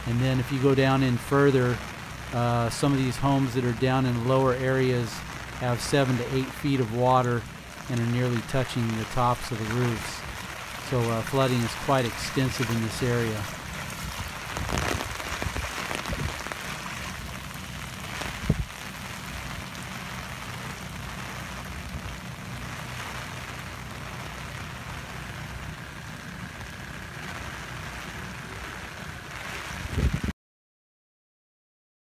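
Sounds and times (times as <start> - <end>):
rain falling: 0.0 - 30.3
low rumble: 3.7 - 30.3.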